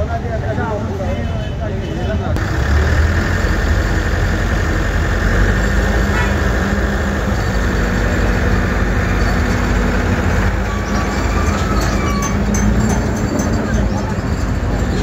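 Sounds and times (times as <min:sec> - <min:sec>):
diesel engine humming: 0:02.4 - 0:15.0.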